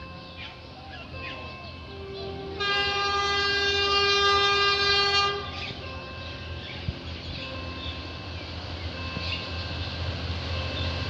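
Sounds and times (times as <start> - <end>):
diesel engine rumble: 0.0 - 11.0
locomotive horn blast: 0.0 - 11.0.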